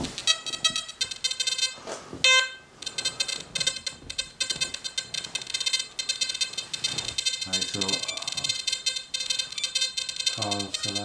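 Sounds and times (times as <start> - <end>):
metal detector short beeps: 0.2 - 11.0.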